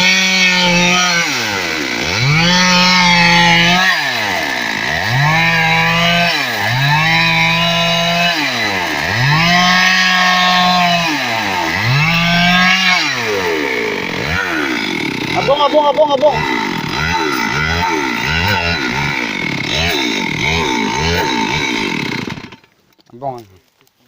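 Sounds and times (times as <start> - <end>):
chainsaw revving: 0.0 - 22.7.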